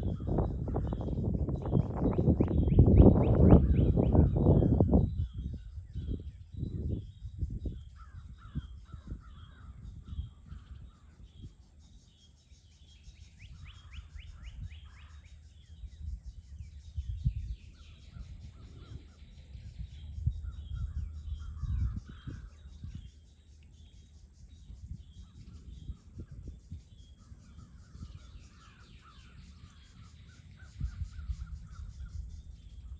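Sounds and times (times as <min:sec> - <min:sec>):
low rumbling on microphone: 0:00.0 - 0:11.7, 0:13.1 - 0:32.9
birds calling and singing: 0:00.0 - 0:32.9.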